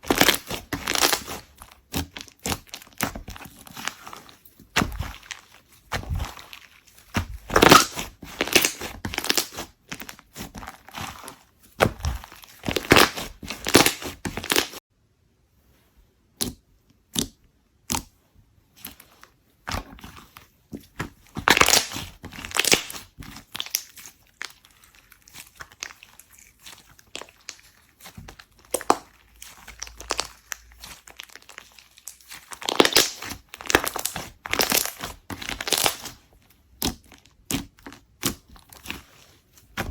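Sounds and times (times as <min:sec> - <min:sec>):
slime crackling and popping: 0:00.0 - 0:14.8, 0:21.3 - 0:39.9.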